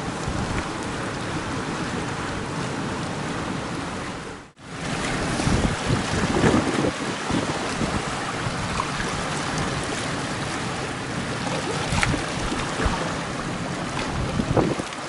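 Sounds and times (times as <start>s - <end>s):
gusting wind on microphone: 0.0s - 15.0s
sea surf: 0.0s - 15.0s.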